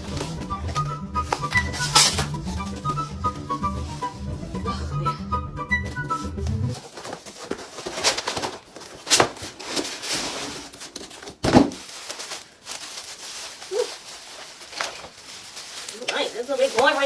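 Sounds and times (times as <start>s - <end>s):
packaging rustling and scraping: 0.0s - 4.2s, 6.1s - 17.0s.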